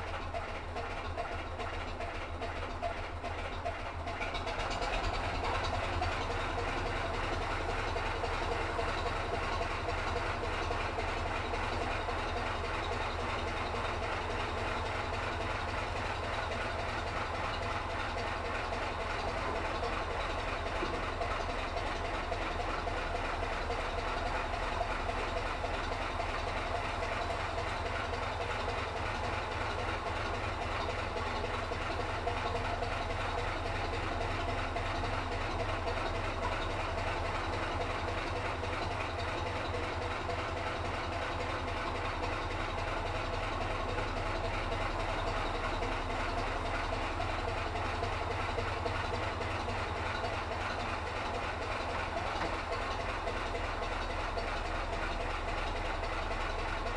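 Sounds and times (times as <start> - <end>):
boat diesel engine throbbing: 0.0 - 56.9.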